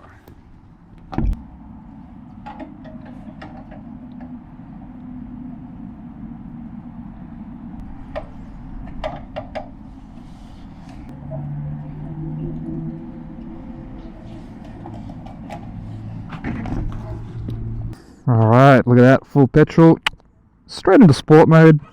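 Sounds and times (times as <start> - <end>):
vehicle engine noise: 0.0 - 20.6
low hum: 0.0 - 20.8.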